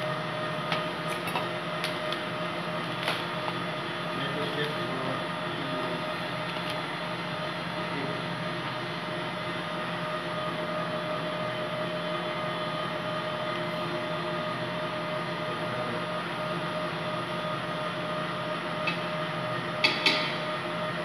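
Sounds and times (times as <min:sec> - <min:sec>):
mid-pitched hum: 0:00.0 - 0:21.0
ventilation whirring drone: 0:00.0 - 0:21.0.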